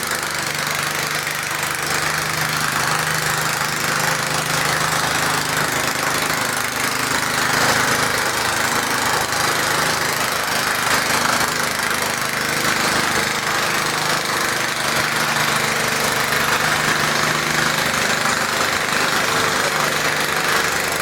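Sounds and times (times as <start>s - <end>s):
garden tractor engine running: 0.0s - 21.0s.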